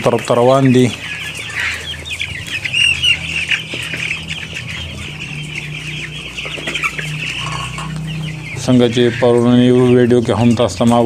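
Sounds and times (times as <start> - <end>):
chicks cheeping: 0.0 - 11.0.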